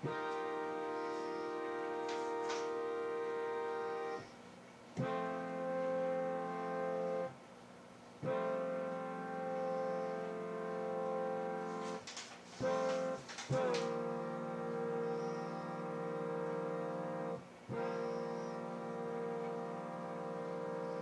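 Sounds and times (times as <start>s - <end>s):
train air horn blasts: 0.0s - 4.4s, 5.0s - 7.4s, 8.2s - 12.0s, 12.6s - 21.0s.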